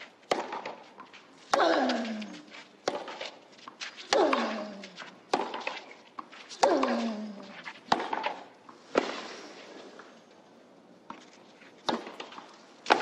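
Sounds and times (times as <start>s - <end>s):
racquets striking tennis ball: 0.0s - 9.3s, 11.0s - 13.0s.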